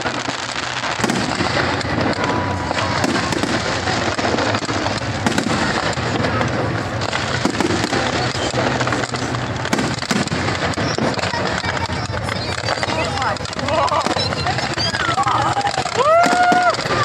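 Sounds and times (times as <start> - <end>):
fireworks crackling: 0.0 - 17.0
fireworks cracks and bangs: 0.0 - 17.0.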